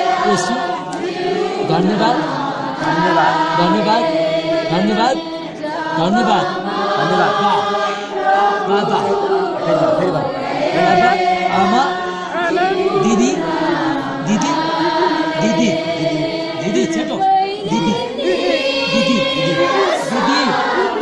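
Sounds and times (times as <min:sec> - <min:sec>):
congregation praying and chanting: 0:00.0 - 0:21.0.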